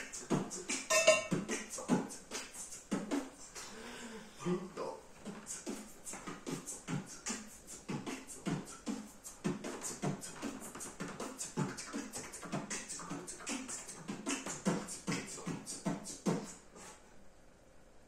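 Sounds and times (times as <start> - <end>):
man beatboxing: 0.0 - 3.8, 4.5 - 16.7.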